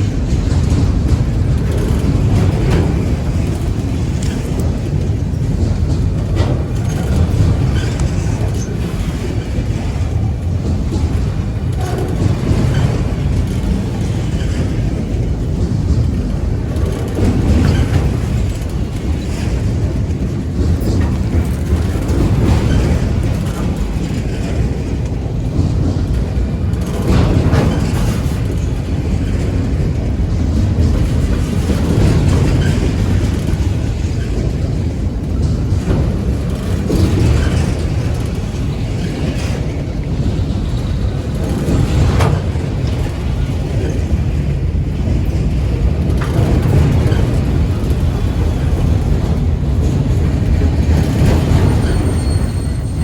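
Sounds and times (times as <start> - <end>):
train rumbling past: 0.0 - 53.0
train wheels clacking: 0.0 - 53.0.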